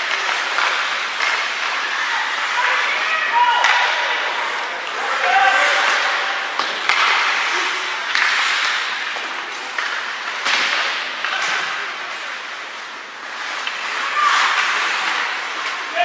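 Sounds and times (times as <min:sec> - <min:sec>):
skates scraping ice: 0:00.0 - 0:16.0.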